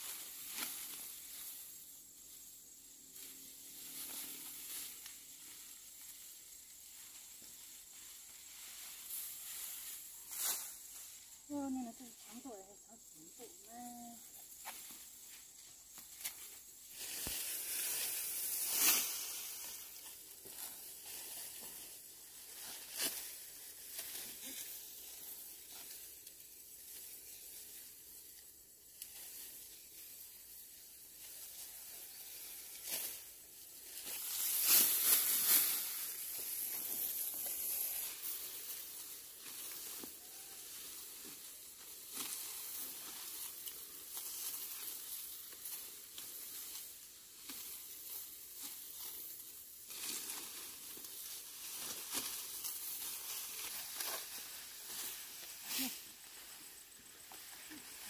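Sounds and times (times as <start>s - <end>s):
dry rustling and crackling: 3.2s - 58.0s.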